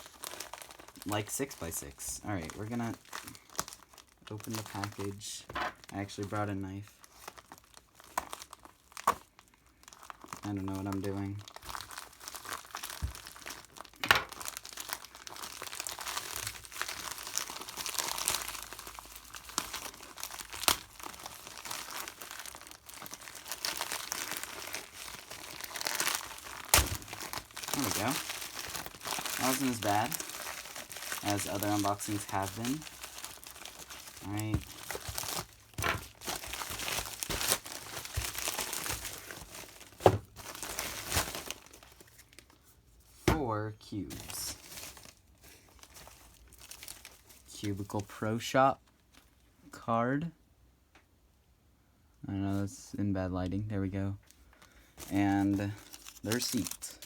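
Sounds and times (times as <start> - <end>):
packaging crinkling and tearing: 0.0 - 48.2, 54.2 - 57.0.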